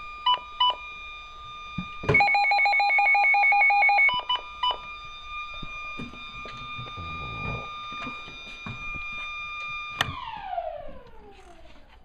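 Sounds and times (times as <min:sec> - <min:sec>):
siren beeps and steady tone: 0:00.0 - 0:12.0.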